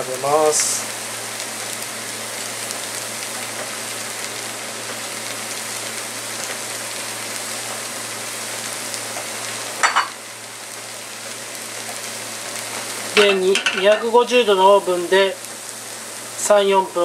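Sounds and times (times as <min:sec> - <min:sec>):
noodles sizzling in a pan: 0:00.0 - 0:17.0.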